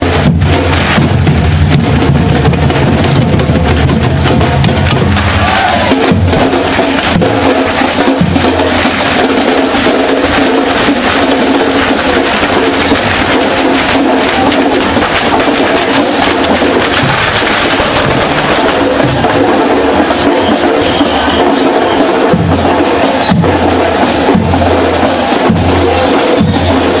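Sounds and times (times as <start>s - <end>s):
drum-led percussion music: 0.0s - 27.0s.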